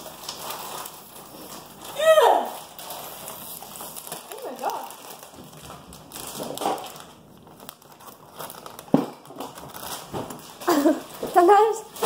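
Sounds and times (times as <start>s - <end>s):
snack wrapper crinkling: 0.0s - 12.0s.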